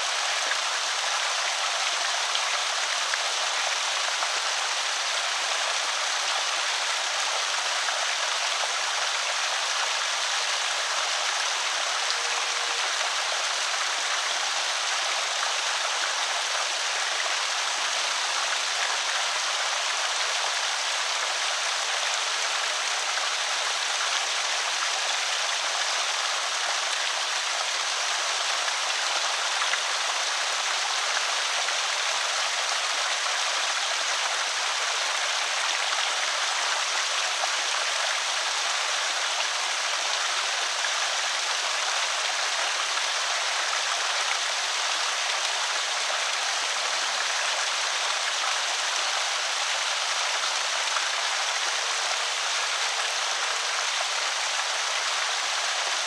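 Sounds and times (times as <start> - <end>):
water pouring over spillway: 0.0 - 56.0.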